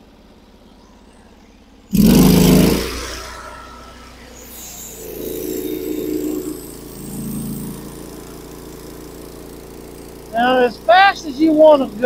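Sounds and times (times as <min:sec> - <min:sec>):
sawmill engine: 0:00.0 - 0:12.0.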